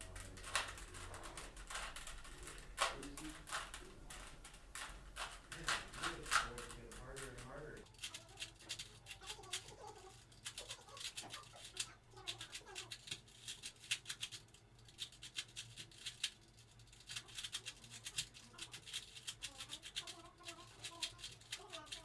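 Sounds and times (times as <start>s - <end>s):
plastic cube clicks and rattles: 0.0s - 22.0s.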